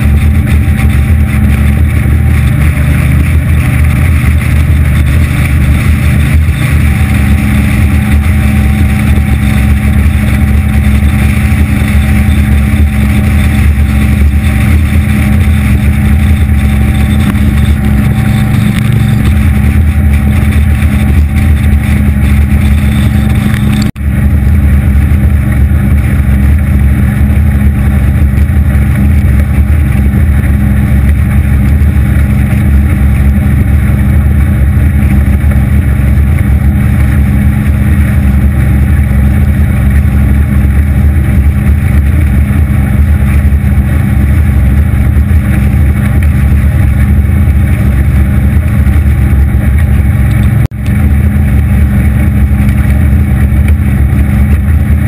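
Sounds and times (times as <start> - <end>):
outboard motorboat engine drone: 0.0 - 55.0.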